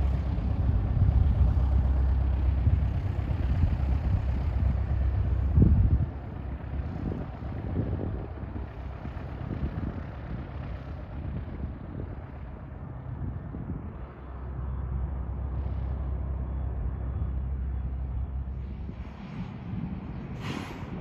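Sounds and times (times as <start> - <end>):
distant jet engine: 0.0 - 21.0
propeller plane engine drone: 0.0 - 21.0
wind buffeting microphone: 0.0 - 21.0.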